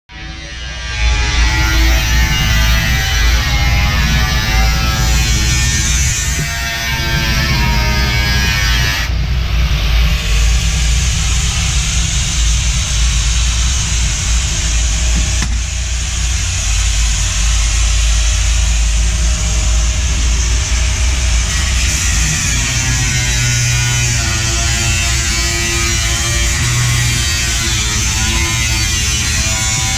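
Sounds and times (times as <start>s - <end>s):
low rumble: 0.4s - 29.9s
angle grinder cutting metal: 1.0s - 29.9s.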